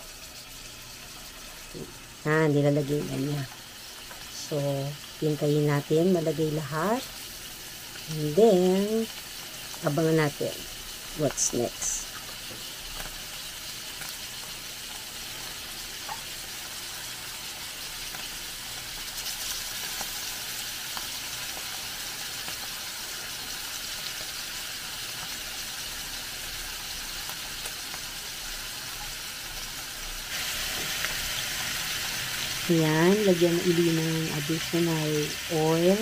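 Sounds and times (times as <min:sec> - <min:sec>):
chicken sizzling in hot oil: 0:00.0 - 0:36.0.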